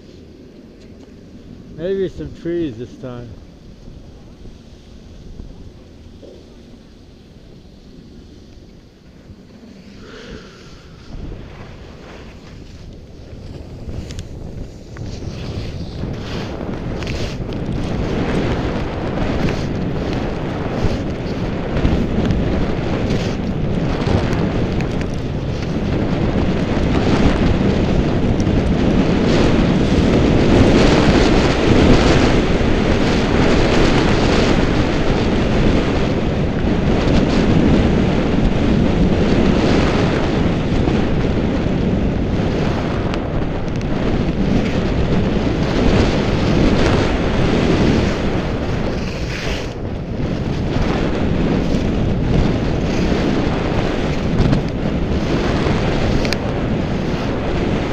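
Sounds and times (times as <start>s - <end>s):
skis scraping on snow: 0.0s - 57.9s
wind rushing over microphone: 0.0s - 57.9s.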